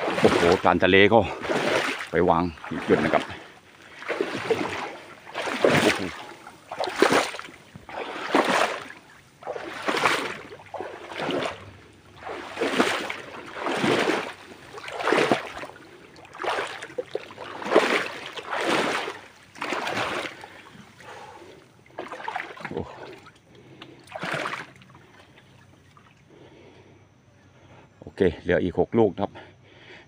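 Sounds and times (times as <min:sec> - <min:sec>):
rhythmic splashing in shallow water: 0:00.0 - 0:26.7.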